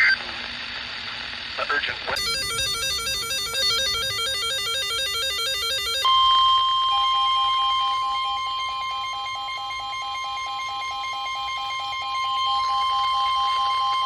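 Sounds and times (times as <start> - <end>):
loud steady high alarm tone: 2.2 - 14.0
lower pulsing beep: 2.2 - 14.0.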